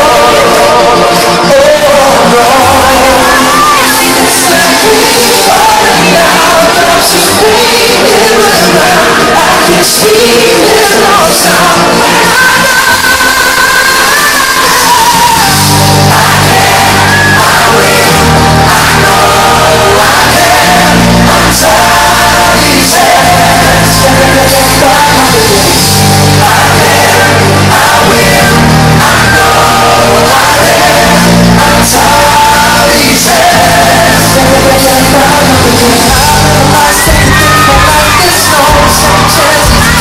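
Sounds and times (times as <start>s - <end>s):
bass: 0.0s - 40.0s
crowd shouting along: 0.0s - 40.0s
drums: 0.0s - 40.0s
keyboards: 0.0s - 40.0s
male vocal group singing: 0.0s - 40.0s.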